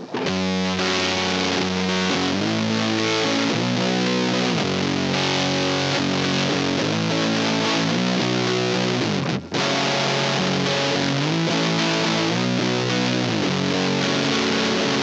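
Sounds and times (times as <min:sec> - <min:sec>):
distorted fuzz electric guitar chords: 0:00.0 - 0:15.0.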